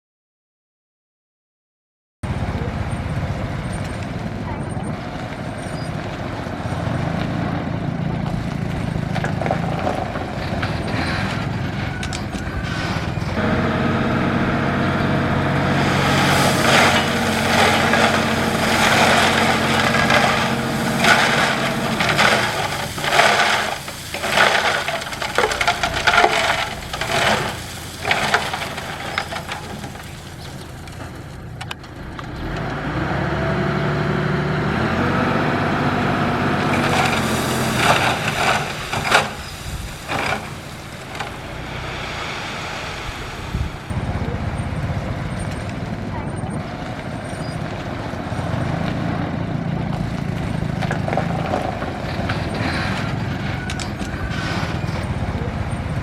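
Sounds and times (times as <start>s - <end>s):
bulldozer diesel engine: 2.2s - 56.0s
blade scraping gravel: 4.8s - 32.5s, 36.0s - 44.0s, 44.9s - 56.0s.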